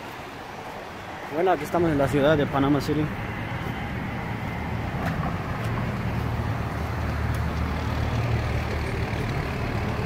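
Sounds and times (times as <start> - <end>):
cars passing: 0.0 - 10.0
deep engine rumble: 1.9 - 10.0.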